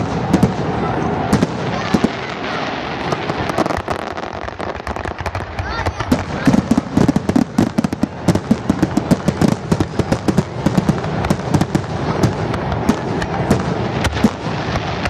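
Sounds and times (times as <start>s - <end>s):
continuous rumble: 0.0s - 15.0s
fireworks bangs and pops: 0.0s - 15.0s.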